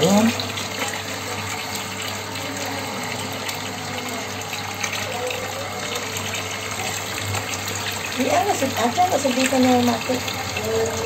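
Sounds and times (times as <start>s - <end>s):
water pouring into tank: 0.0s - 11.0s.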